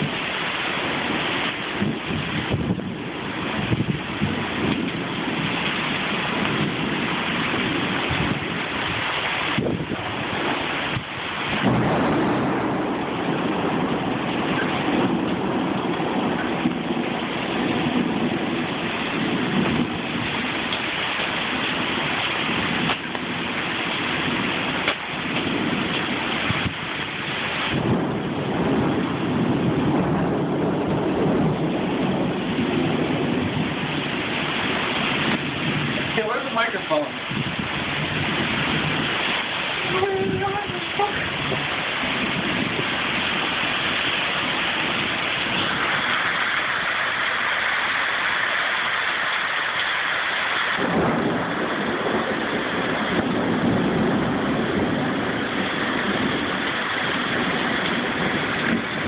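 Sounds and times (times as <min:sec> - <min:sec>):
heavy rain pouring: 0:00.0 - 0:59.0
strong gusting wind: 0:00.0 - 0:59.0.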